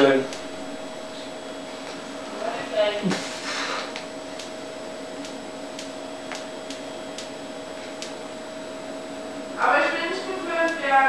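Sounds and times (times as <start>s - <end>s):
high electrical hum: 0.0s - 11.0s.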